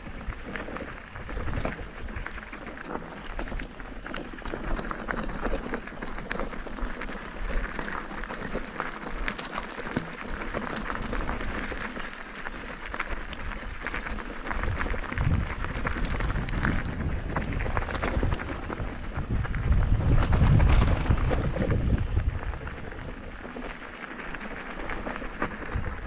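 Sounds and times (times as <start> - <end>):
bike clicking and rattling: 0.0 - 26.0
tyres on gravel trail: 0.0 - 26.0.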